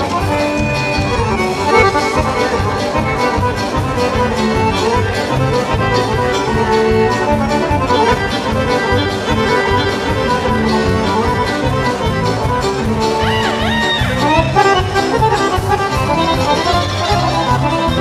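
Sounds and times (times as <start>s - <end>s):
accordion folk dance music: 0.0s - 18.0s.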